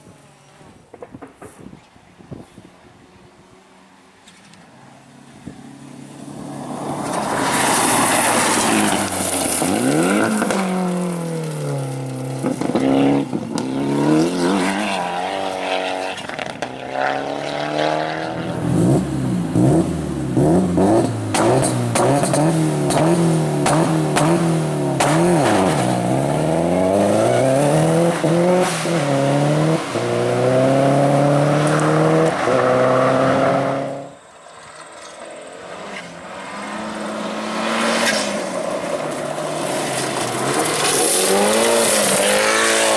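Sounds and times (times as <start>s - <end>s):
rally car engine revving: 6.4s - 34.2s, 35.7s - 42.9s.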